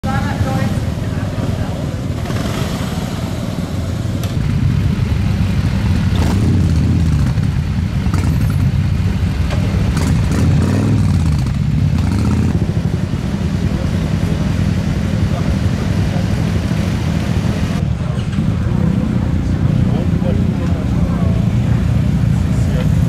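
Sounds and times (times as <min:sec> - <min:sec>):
motorcycle engine revving: 0:00.1 - 0:23.0.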